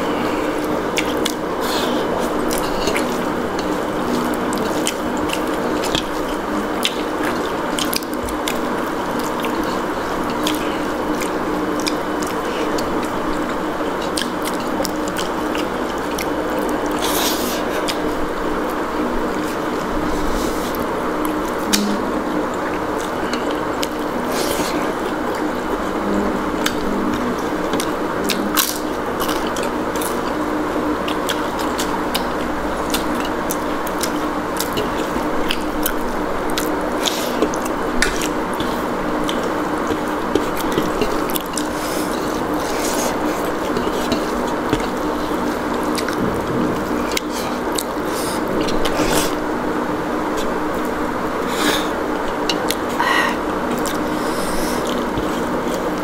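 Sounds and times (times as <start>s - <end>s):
steady background hum: 0.0s - 56.0s
wet chewing sounds: 0.0s - 56.0s.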